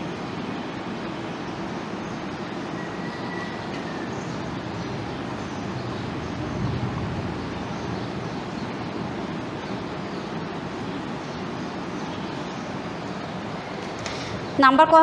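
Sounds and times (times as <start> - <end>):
low background rumble and hiss: 0.0 - 15.0.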